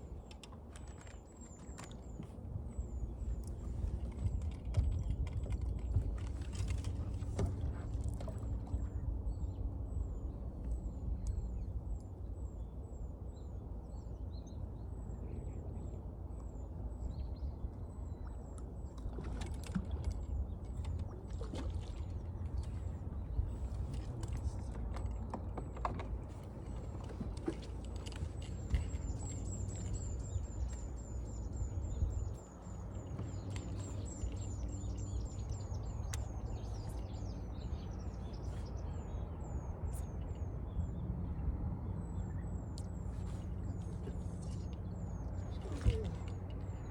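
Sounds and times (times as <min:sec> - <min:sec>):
steady low rumble: 0:00.0 - 0:46.9.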